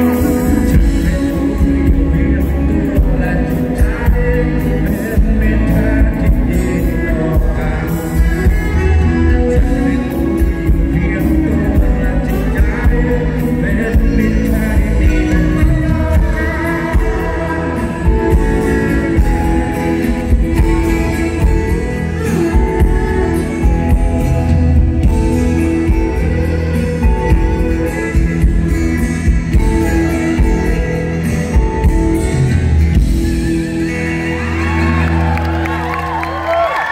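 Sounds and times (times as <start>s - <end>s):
man singing: 0.0s - 35.8s
live rock band playing: 0.0s - 36.9s.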